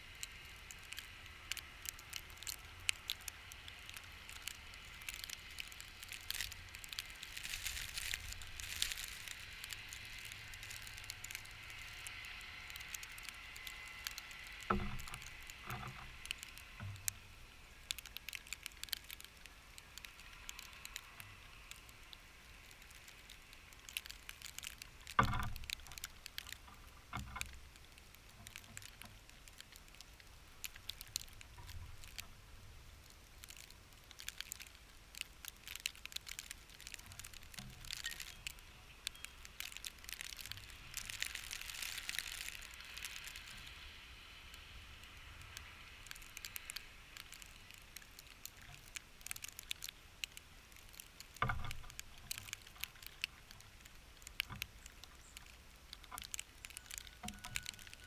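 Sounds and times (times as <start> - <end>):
snow pattering on camera housing: 0.0 - 58.0.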